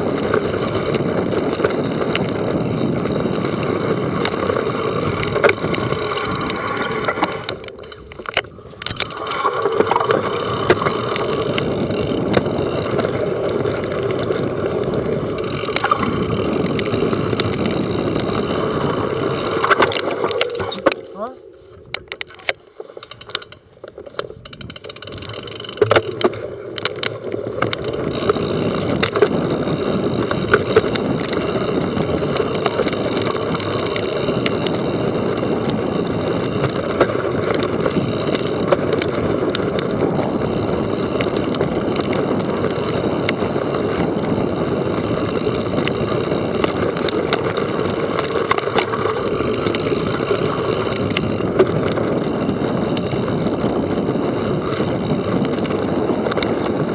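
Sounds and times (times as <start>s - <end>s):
bike rattles and knocks: 0.0s - 56.9s
bike tyres rolling: 0.0s - 56.9s.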